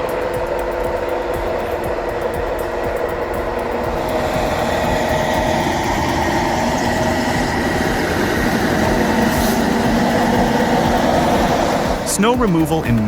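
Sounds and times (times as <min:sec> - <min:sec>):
heavy machinery engine rumble: 0:00.0 - 0:13.0
steady machine whine: 0:00.0 - 0:13.0.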